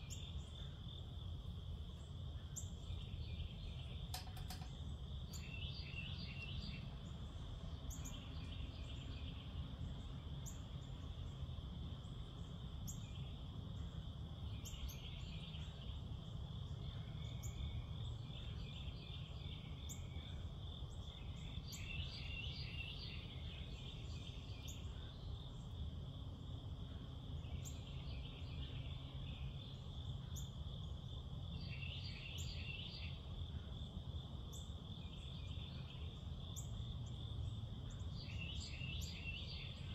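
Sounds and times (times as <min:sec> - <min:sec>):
insects trilling: 0:00.0 - 0:39.9
pulsing insect calls: 0:00.0 - 0:39.9.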